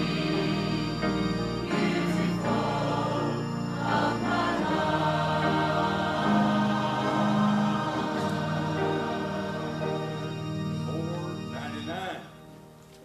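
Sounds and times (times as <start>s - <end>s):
congregation singing a hymn: 0.0s - 12.4s.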